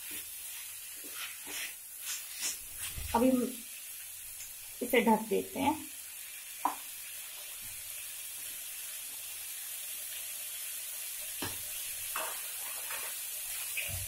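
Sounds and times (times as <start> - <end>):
tomatoes sizzling in oil: 0.0 - 14.0.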